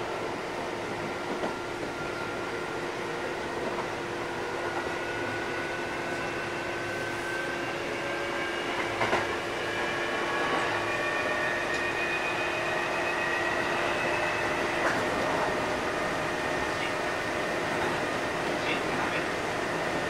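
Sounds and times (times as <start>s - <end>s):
train motor and gear whine: 0.0s - 20.0s
train wheels rumbling: 3.4s - 20.0s.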